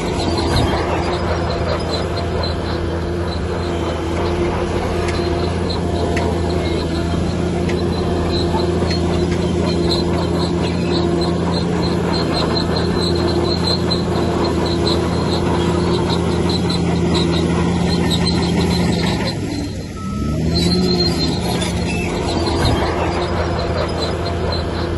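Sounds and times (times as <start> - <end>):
bulldozer diesel engine running: 0.0 - 24.9
short high-pitched squeaks: 0.0 - 24.9.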